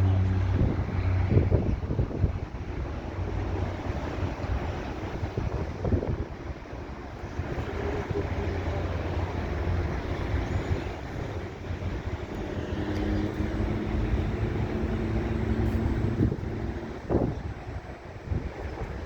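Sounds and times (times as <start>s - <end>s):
distant jet engines rumbling: 0.0s - 19.0s.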